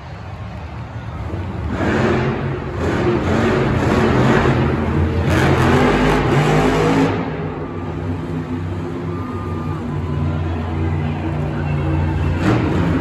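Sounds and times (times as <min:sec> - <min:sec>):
monster truck engine revving: 0:01.2 - 0:13.0.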